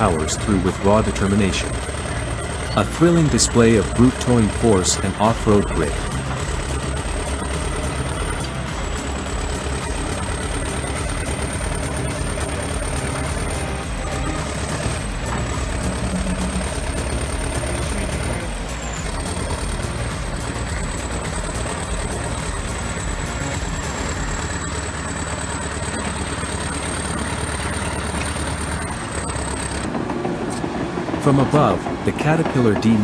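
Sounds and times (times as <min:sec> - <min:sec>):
thin high whine: 0:00.0 - 0:29.9
bulldozer diesel engine rumbling: 0:00.0 - 0:33.0.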